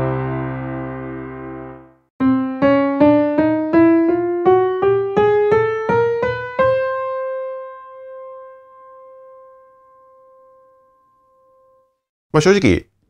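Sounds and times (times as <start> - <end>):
piano playing rising scale: 0.0 - 12.1.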